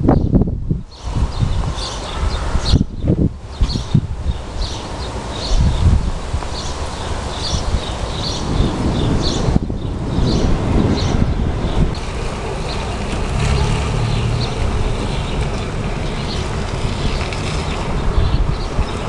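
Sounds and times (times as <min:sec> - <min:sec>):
wind gusting across microphone: 0:00.0 - 0:19.0.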